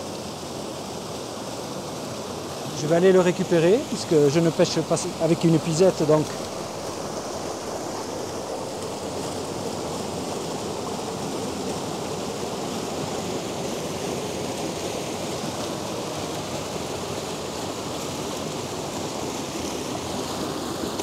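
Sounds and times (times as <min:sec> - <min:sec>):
stream running over stones: 0:00.0 - 0:21.0.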